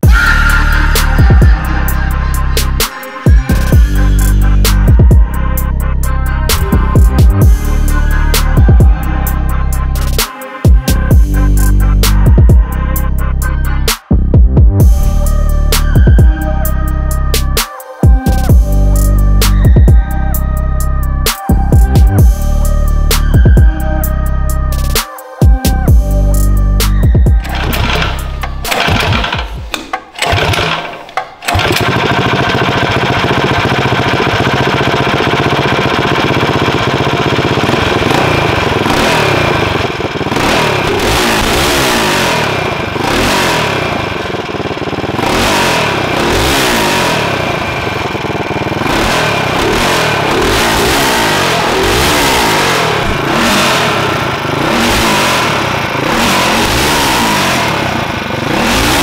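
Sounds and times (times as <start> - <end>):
small engine running and revving: 0.0 - 14.0, 14.8 - 29.6, 30.2 - 30.9, 31.5 - 59.0.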